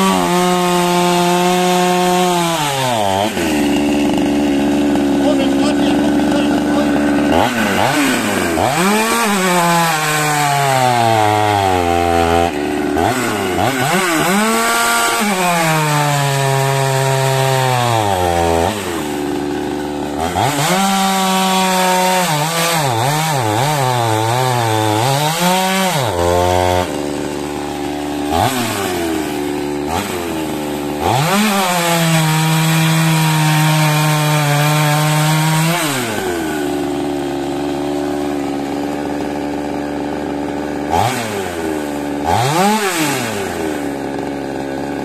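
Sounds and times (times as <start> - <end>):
chainsaw cutting through log: 0.0 - 45.0
chainsaw revving and idling: 0.0 - 45.0.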